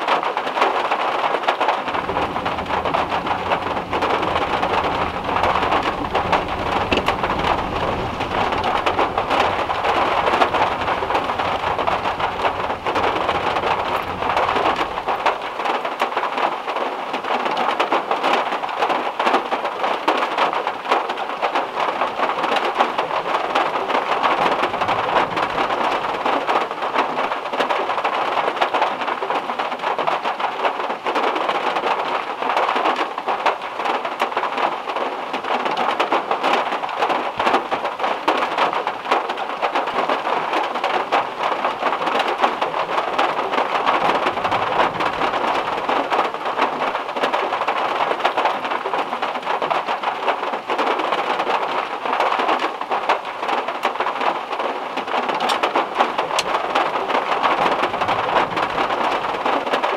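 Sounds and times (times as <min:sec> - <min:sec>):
heavy rain on metal car roof: 0:00.0 - 0:59.9.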